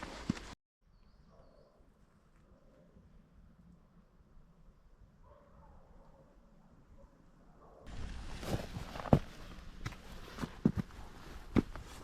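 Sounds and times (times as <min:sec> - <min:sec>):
faint forest ambience: 0:00.0 - 0:12.0.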